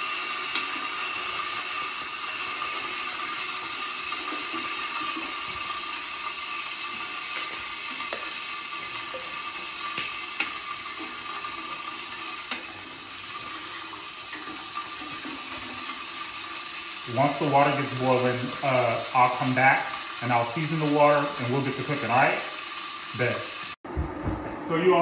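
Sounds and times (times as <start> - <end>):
water pouring and splashing: 0.0 - 25.0.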